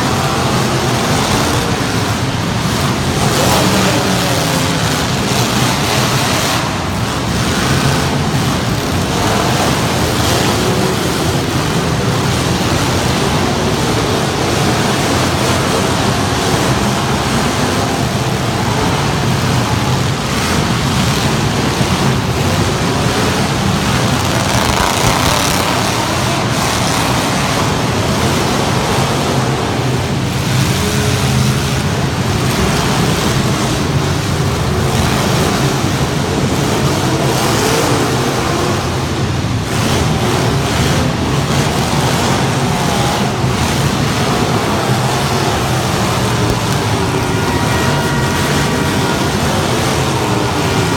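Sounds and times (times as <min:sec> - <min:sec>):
truck engines running: 0:00.0 - 0:50.9.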